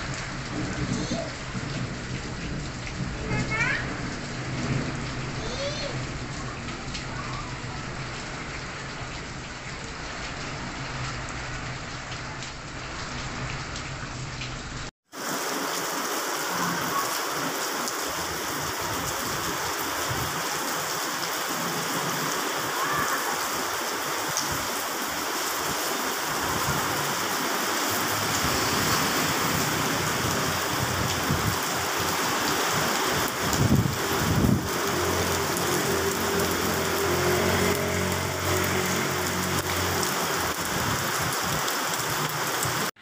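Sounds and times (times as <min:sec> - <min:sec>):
heavy rain hissing: 0:00.0 - 0:43.0.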